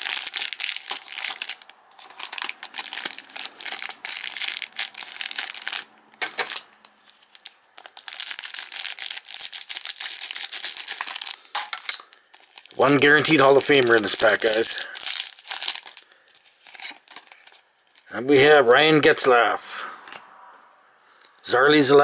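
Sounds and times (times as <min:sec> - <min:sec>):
plastic wrapping tearing and crinkling: 0:00.0 - 0:18.1.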